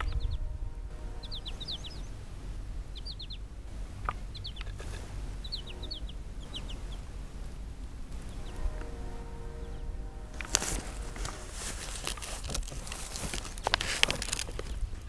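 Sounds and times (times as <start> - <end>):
songbird singing: 0.0 - 15.0
steady low rumble: 0.0 - 15.0.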